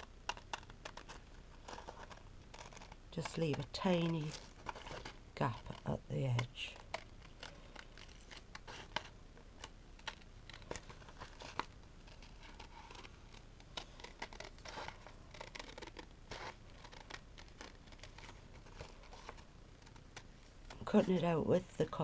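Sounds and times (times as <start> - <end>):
scissors snipping paper: 0.0 - 20.2.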